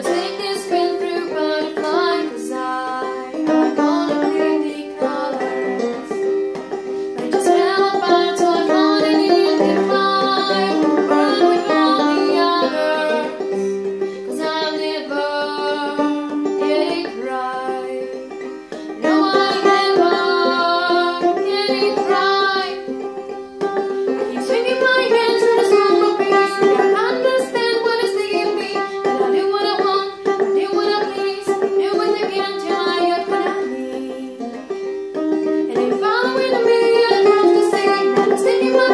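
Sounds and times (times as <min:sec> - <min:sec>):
woman singing: 0:00.0 - 0:06.3, 0:07.2 - 0:23.0, 0:24.1 - 0:34.6, 0:35.6 - 0:38.9
banjo strummed and picked: 0:00.0 - 0:38.9.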